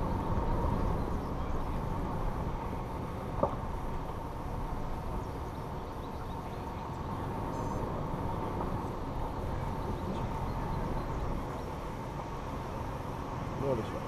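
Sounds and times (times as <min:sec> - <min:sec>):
engine low rumble with whine: 0:00.0 - 0:14.0.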